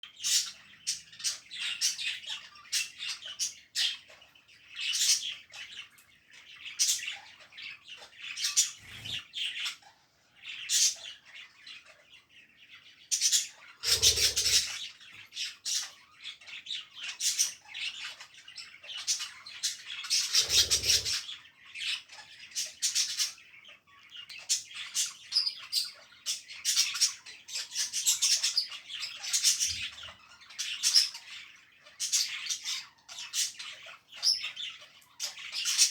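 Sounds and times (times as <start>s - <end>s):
budgerigars chirping and squawking: 0.0s - 35.9s.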